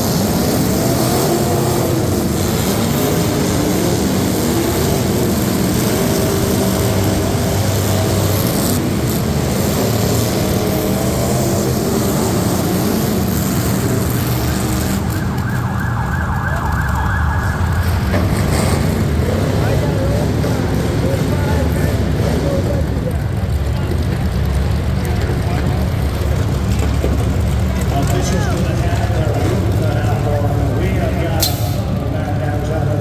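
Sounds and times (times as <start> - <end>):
truck engine running at high revs: 0.0 - 33.0.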